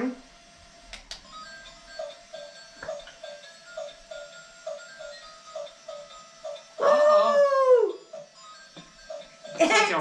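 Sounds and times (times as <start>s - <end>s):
toy electronic tune: 1.2s - 10.0s.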